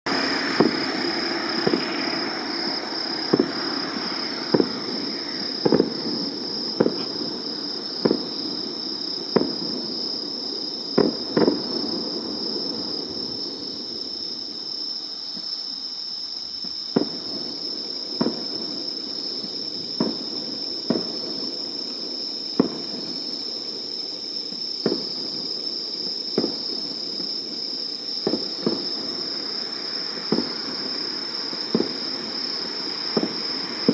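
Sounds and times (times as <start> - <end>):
fireworks bangs: 0.0 - 14.0, 16.6 - 33.9.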